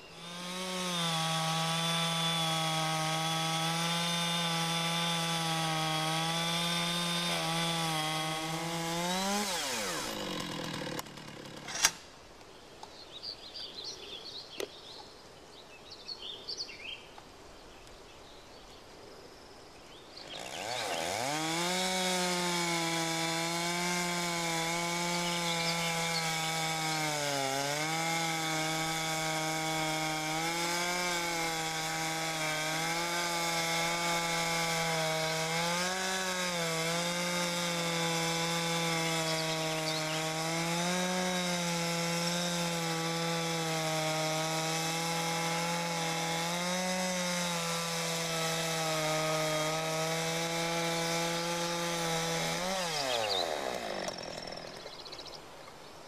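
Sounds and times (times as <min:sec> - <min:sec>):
chainsaw cutting log: 0:00.0 - 0:12.1, 0:20.2 - 0:55.2.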